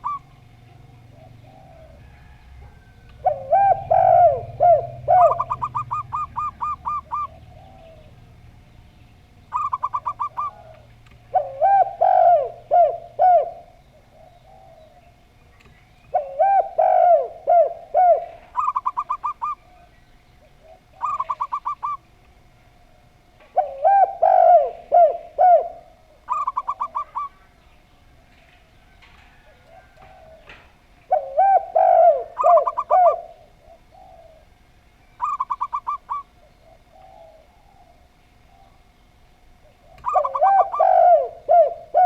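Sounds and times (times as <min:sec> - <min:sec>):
doves cooing: 0:00.0 - 0:42.0.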